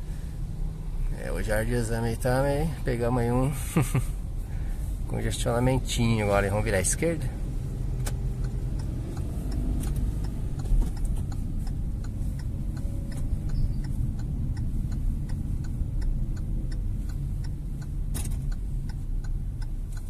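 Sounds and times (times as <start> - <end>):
engine and road hum in cabin: 0.0 - 20.0
turn signal ticking: 0.0 - 20.0.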